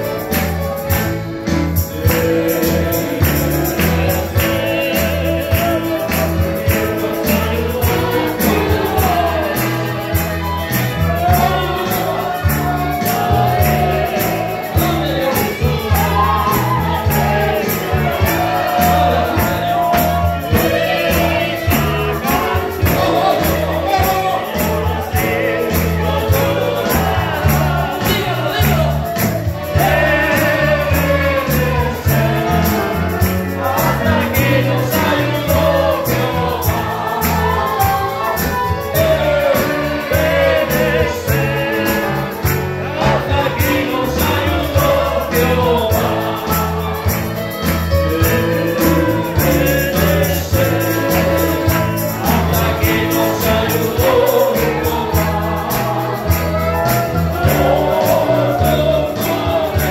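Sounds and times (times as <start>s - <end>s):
band with bass and beat: 0.0s - 59.9s
group of voices singing: 0.0s - 59.9s.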